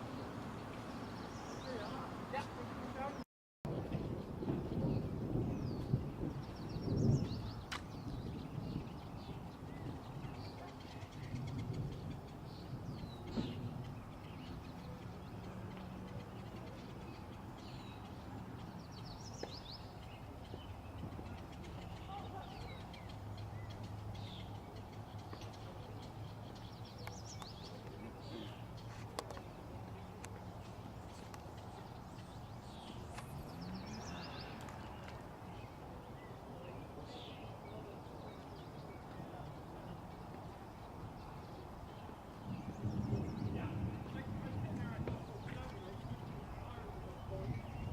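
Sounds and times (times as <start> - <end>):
birds chirping: 0.0 - 3.2, 3.8 - 47.9
low outdoor background noise: 0.0 - 47.9.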